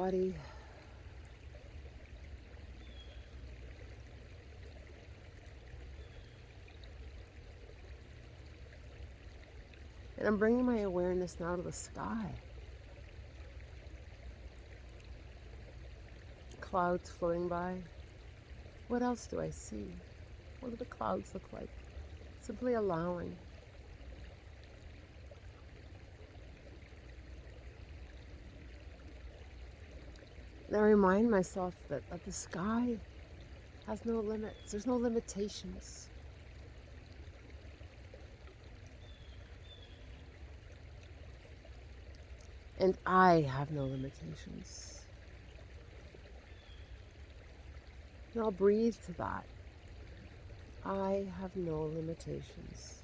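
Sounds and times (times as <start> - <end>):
creek flowing water: 0.0 - 53.0.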